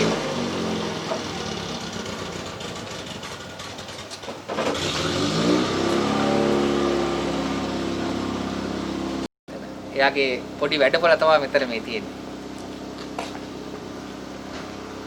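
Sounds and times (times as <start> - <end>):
vehicle engine running: 0.0 - 4.2, 4.8 - 15.0.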